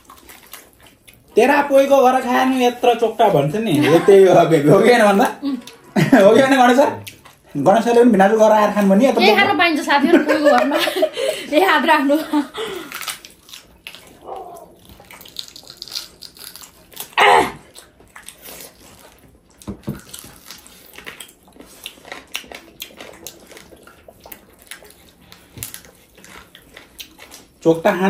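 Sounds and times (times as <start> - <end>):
wet chewing and smacking: 0.0 - 9.5, 12.7 - 28.0.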